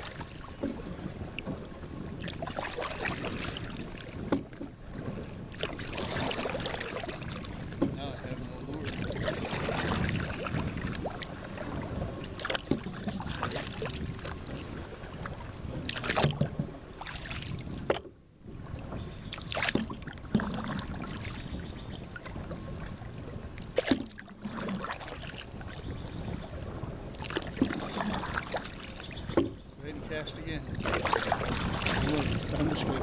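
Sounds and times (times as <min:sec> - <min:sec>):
water lapping around boat: 0:00.0 - 0:33.0.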